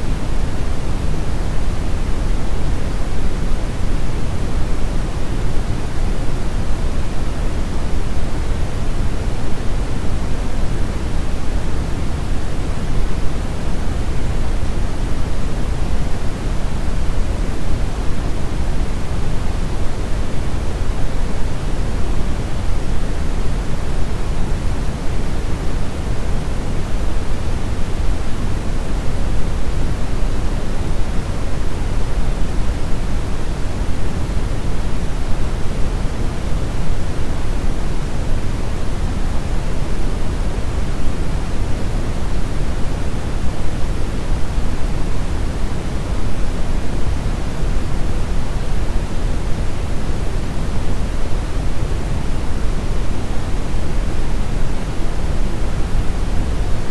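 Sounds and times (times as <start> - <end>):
deep brown noise hiss: 0.0 - 56.9.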